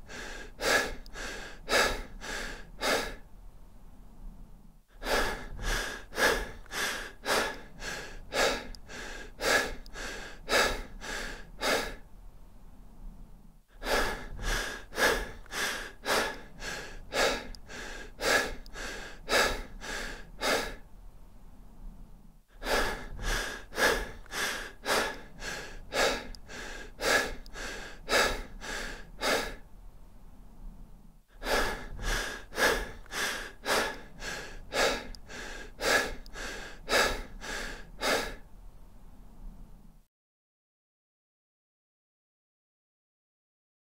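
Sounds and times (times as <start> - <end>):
person breathing fast: 0.0 - 3.3, 4.0 - 12.1, 12.8 - 20.9, 21.6 - 29.7, 30.4 - 38.5.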